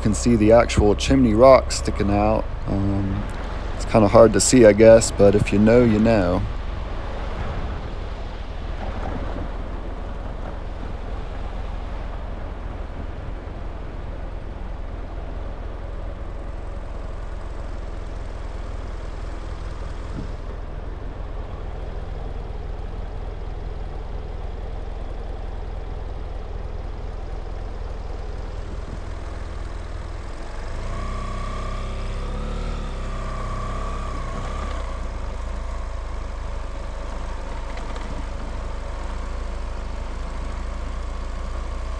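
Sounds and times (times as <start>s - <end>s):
vehicle engine and road noise: 0.0s - 41.9s
whining engine: 0.0s - 41.9s.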